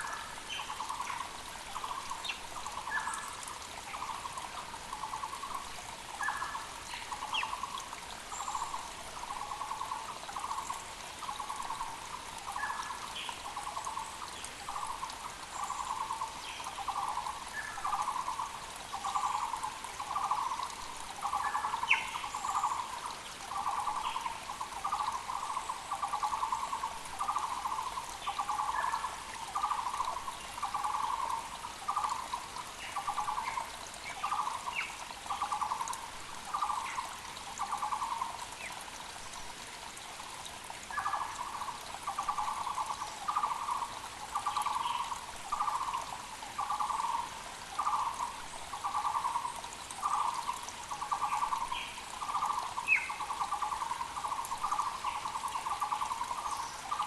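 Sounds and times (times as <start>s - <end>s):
creek hissing: 0.0s - 57.0s.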